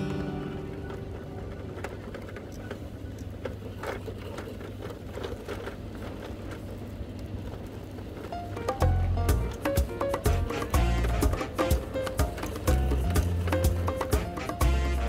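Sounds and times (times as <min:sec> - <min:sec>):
small clicks and rattles: 0:00.0 - 0:15.0
toy truck wheels rolling on paving: 0:00.0 - 0:15.0.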